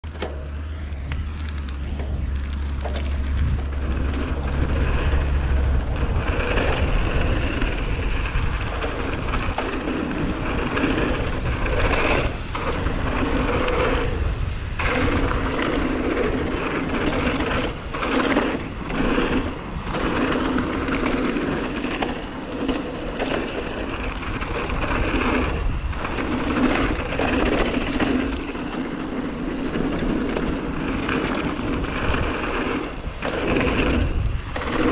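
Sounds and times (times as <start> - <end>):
bike rattles and knocks: 0.0 - 34.9
low wind rumble: 0.0 - 34.9
tyres crunching on gravel: 1.0 - 34.9.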